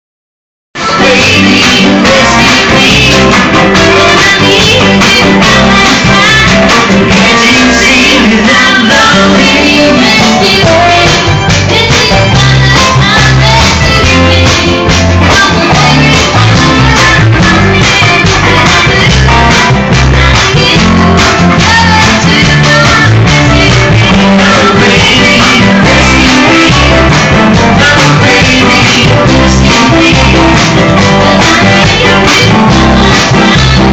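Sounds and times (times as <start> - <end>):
live rock band playing: 0.8 - 33.9
person singing: 0.8 - 33.9.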